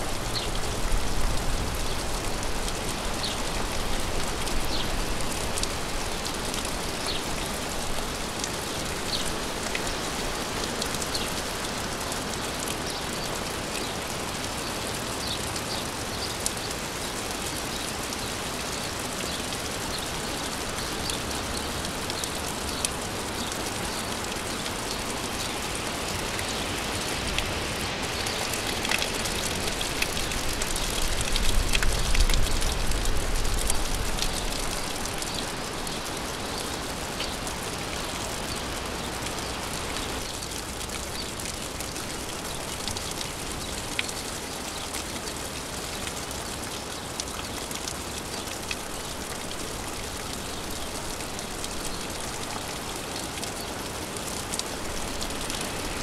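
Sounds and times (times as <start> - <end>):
gentle rain hissing: 0.0 - 56.0
sharp rain drips: 0.0 - 56.0.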